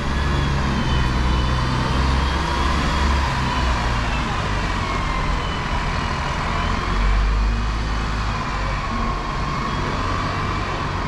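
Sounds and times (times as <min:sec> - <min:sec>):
passing traffic rumble: 0:00.0 - 0:11.0.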